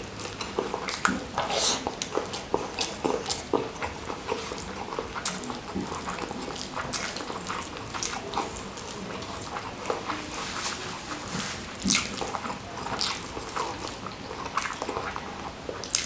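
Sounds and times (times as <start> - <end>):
wet chewing: 0.0 - 16.0.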